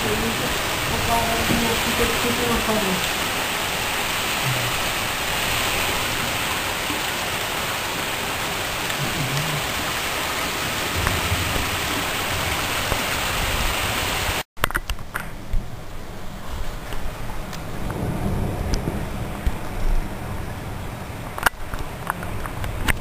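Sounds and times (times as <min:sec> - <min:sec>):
thunder rumble: 0:00.0 - 0:14.4, 0:15.3 - 0:23.0
heavy rain pouring: 0:00.0 - 0:14.5, 0:15.4 - 0:23.0.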